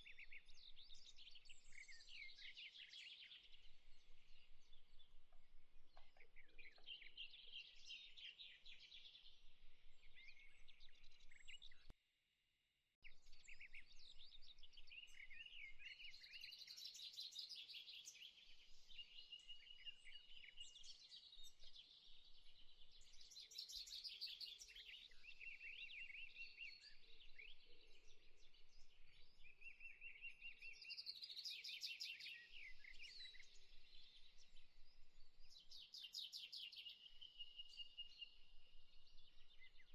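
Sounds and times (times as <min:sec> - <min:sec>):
faint birdsong: 0:00.0 - 0:11.9, 0:13.0 - 0:39.9.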